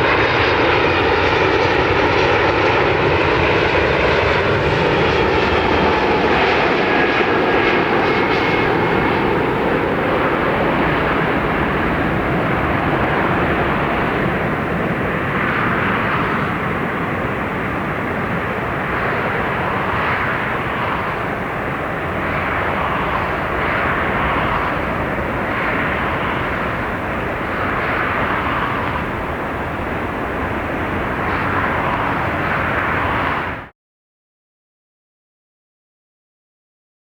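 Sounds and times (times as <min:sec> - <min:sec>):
jet engines rushing: 0:00.0 - 0:33.7.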